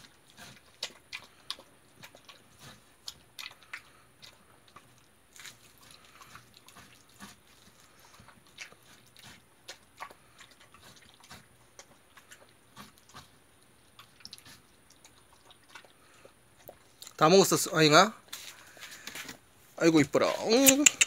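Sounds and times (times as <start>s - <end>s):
dog crunching watermelon rind: 0.0s - 21.0s.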